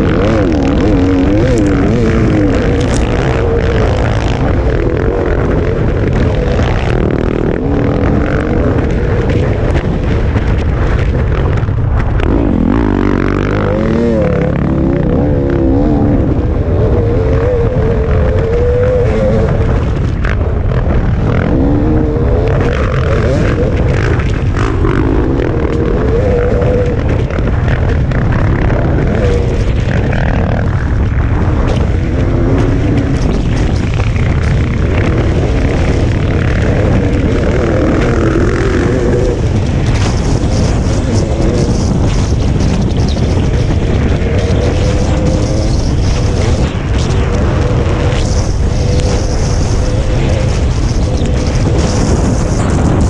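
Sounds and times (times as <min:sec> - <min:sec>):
dirt bike engine revving: 0:00.0 - 0:53.0
wind noise: 0:00.0 - 0:53.0.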